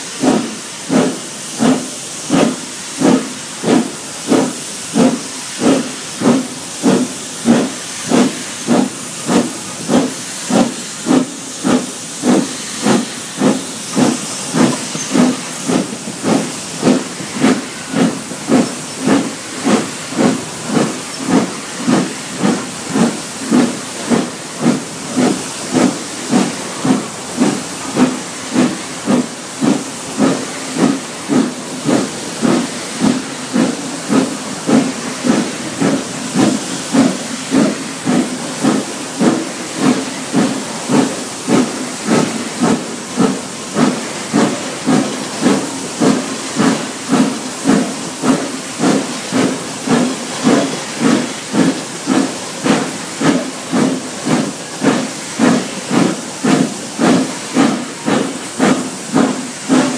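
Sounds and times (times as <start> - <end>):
hiss of escaping steam: 0.0 - 59.9
steam locomotive exhaust beats: 0.0 - 59.9.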